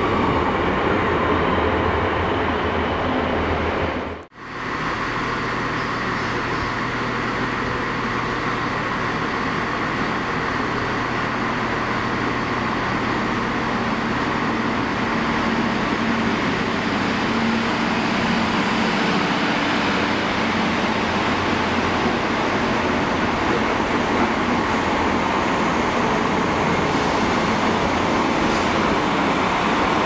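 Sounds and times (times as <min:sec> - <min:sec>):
diesel train engine humming: 0:00.0 - 0:30.0
train wheels rumbling on rails: 0:00.0 - 0:30.0.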